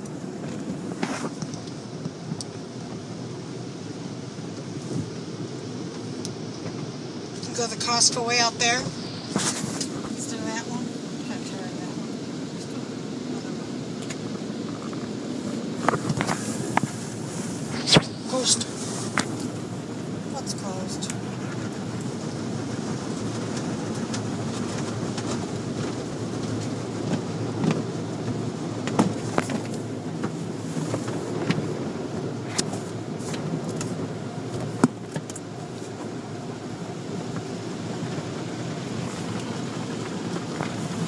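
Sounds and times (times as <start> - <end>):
car wash water spray rumble: 0.0 - 41.0.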